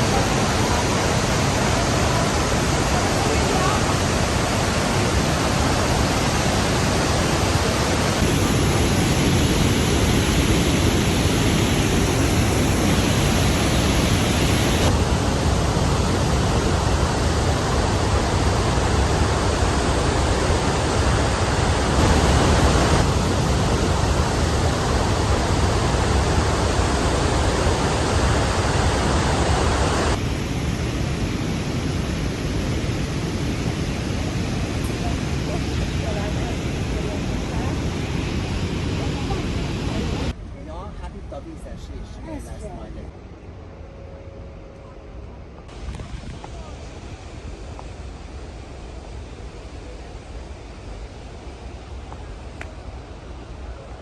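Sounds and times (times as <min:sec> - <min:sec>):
large waterfall rushing: 0:00.0 - 0:40.4, 0:45.7 - 0:54.0.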